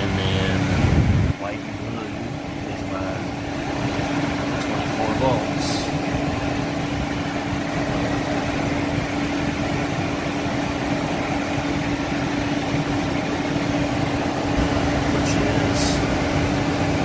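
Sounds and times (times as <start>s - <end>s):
blower airflow with low hum: 0.0s - 17.0s.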